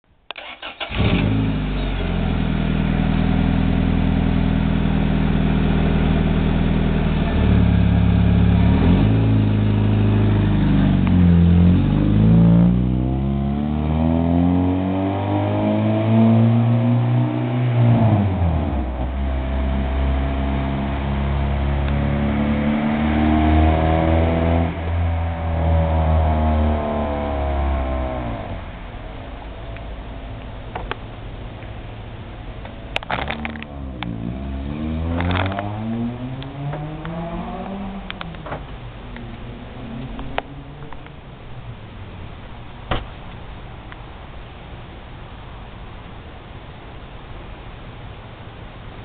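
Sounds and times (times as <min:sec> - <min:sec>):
car engine idling and revving: 0:00.4 - 0:44.0.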